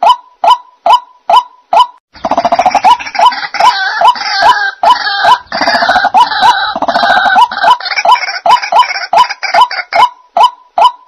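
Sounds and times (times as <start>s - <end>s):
harsh croaking bird calls: 1.3s - 11.0s.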